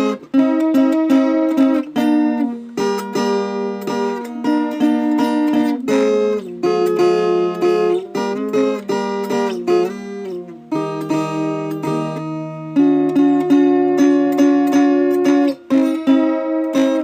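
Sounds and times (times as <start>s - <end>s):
guitar plucked and strummed: 0.0s - 17.0s.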